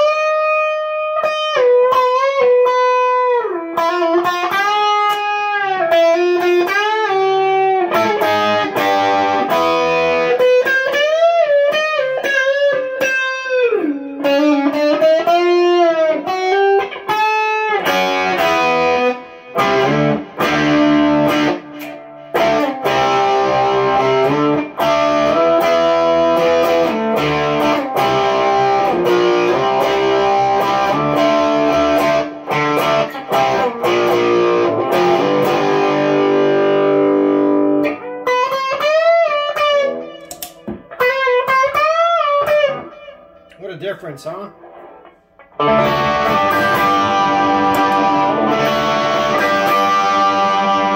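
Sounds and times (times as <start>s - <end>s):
electric guitar playing: 0.0s - 50.9s.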